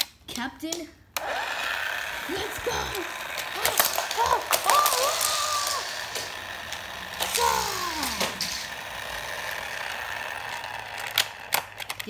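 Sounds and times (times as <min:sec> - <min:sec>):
toys knocking together: 0:02.1 - 0:12.0.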